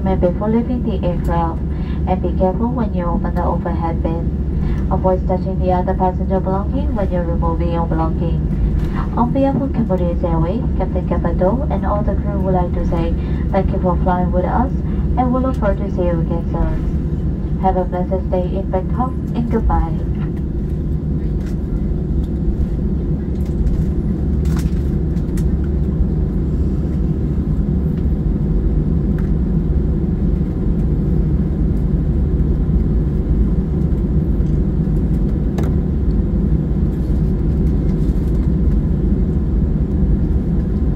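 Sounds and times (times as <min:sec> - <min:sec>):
airplane cabin rumble while taxiing: 0:00.0 - 0:40.9.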